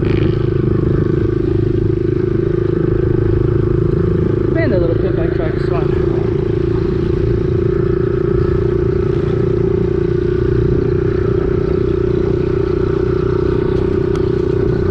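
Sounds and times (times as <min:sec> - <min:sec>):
small motorbike engine droning: 0:00.0 - 0:14.9.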